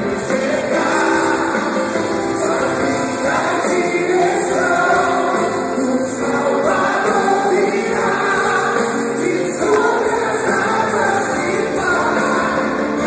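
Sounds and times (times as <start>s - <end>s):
full band playing: 0.0s - 13.0s
voices singing together: 0.0s - 13.0s.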